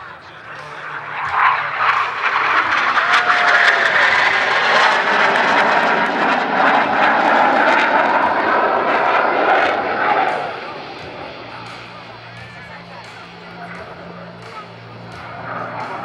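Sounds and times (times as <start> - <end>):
jet aircraft roar: 0.0 - 16.0.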